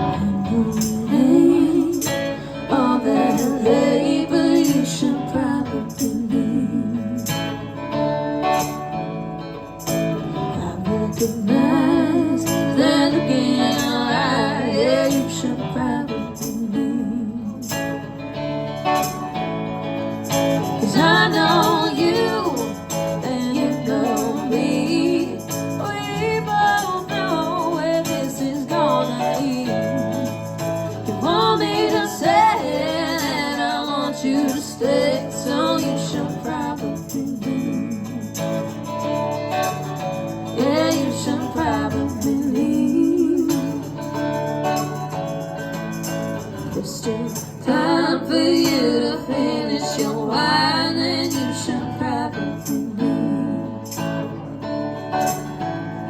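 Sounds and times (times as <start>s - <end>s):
bending lead guitar melody: 0.0s - 56.0s.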